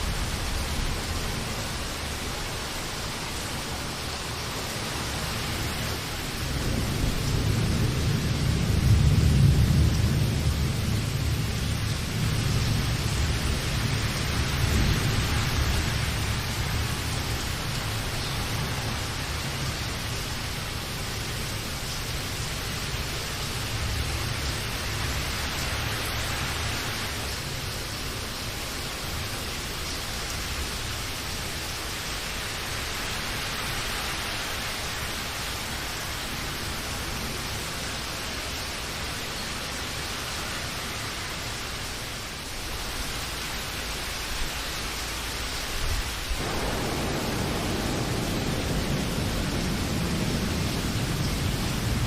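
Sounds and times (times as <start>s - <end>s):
steady rain hissing: 0.0s - 52.0s.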